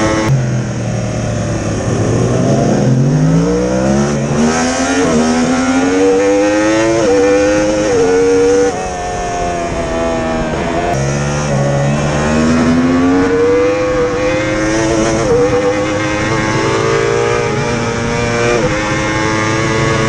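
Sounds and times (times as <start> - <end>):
motorcycle engine accelerating: 0.0 - 20.0
wind rushing over microphone: 0.0 - 20.0.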